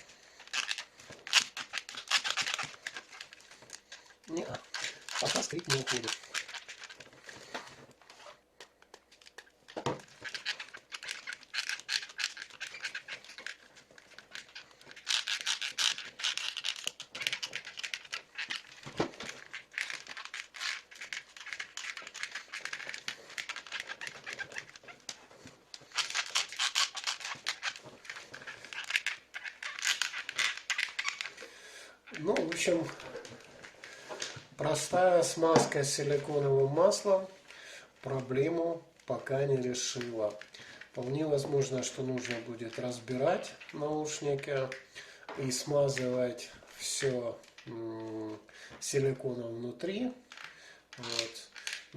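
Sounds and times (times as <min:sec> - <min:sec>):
headphones creaking plastic: 0:00.0 - 0:49.2, 0:49.9 - 0:51.9.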